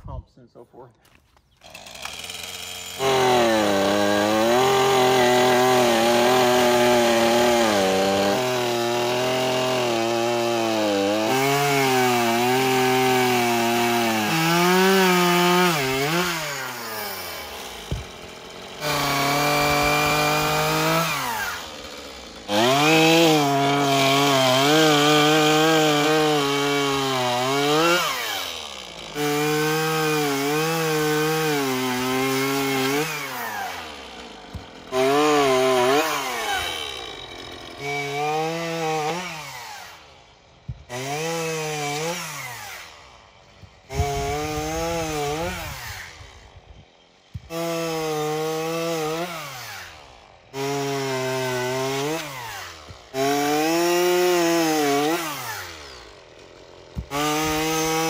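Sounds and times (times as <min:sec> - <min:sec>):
chainsaw cutting wood: 0:01.1 - 0:58.0.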